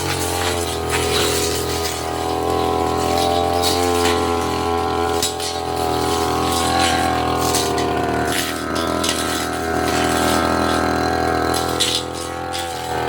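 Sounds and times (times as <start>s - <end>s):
blade cracking through undergrowth: 0.0s - 13.0s
brush cutter engine running: 0.0s - 13.0s.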